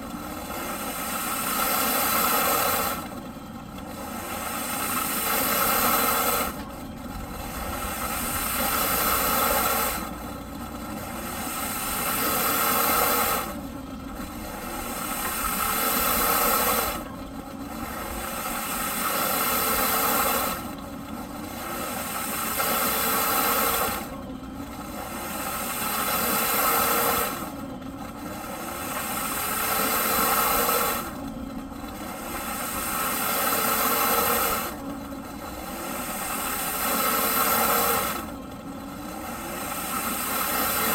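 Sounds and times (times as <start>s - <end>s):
vacuum cleaner motor hissing: 0.0s - 20.8s, 21.5s - 40.9s.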